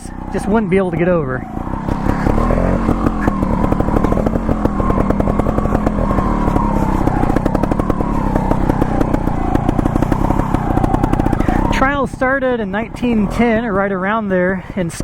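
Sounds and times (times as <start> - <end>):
two-stroke motorbike engine revving: 0.0 - 15.0.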